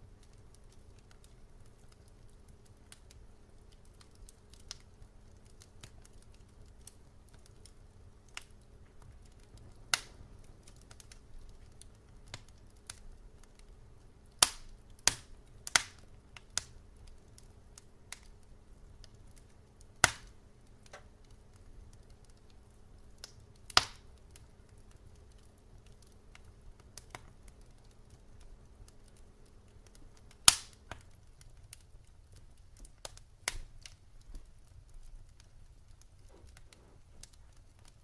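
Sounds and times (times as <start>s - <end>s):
faint low background: 0.0s - 38.0s
firewood crackling and popping: 0.0s - 38.0s.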